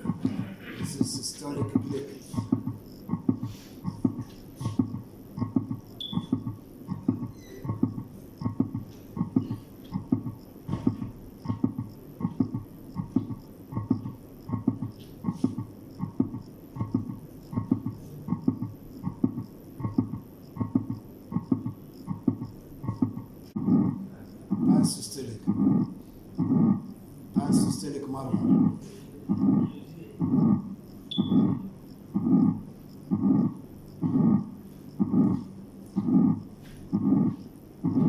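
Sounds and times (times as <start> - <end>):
simulated heartbeat: 0.0 - 38.0.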